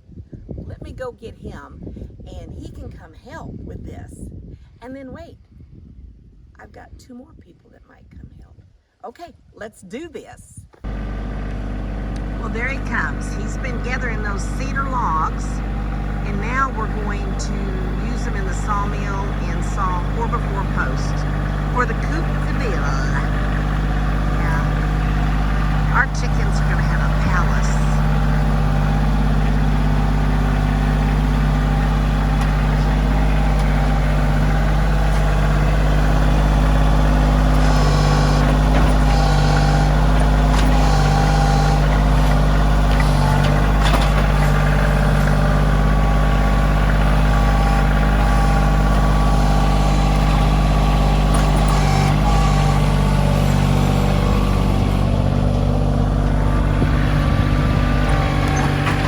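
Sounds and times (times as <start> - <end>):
heavy machine engine running: 10.8 - 59.0.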